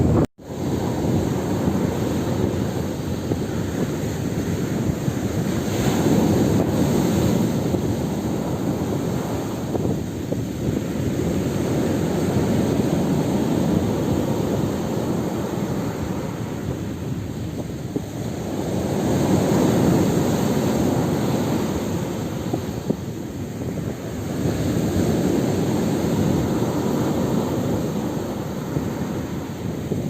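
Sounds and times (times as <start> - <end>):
ocean waves washing in: 0.0 - 30.0
wind on microphone: 0.0 - 30.0.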